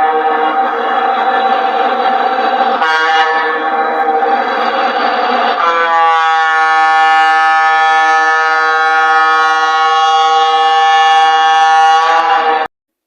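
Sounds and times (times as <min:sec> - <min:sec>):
locomotive whistle blast: 0:00.0 - 0:12.7.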